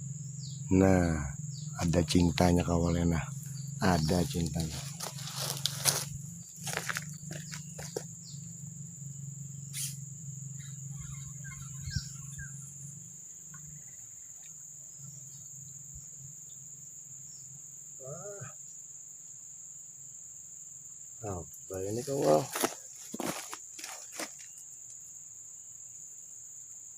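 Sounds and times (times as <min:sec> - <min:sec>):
insects chirring: 0:00.0 - 0:26.9.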